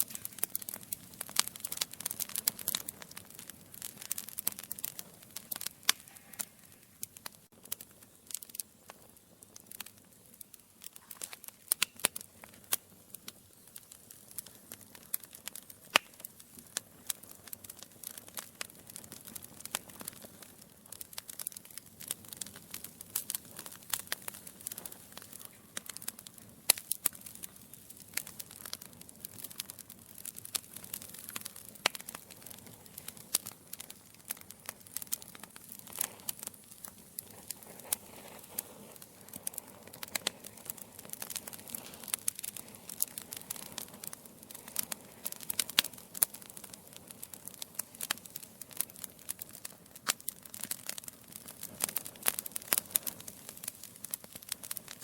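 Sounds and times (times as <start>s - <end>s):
soft hiss of flames: 0.0s - 55.0s
wood fire crackling and popping: 0.0s - 55.0s.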